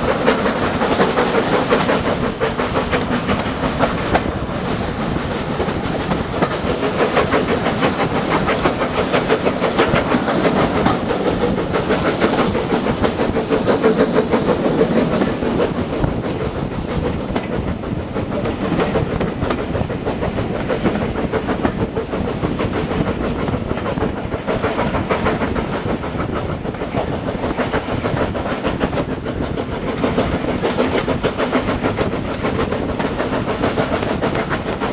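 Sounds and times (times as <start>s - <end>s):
train hissing: 0.0s - 34.9s
train wheels clattering on rails: 0.0s - 34.9s.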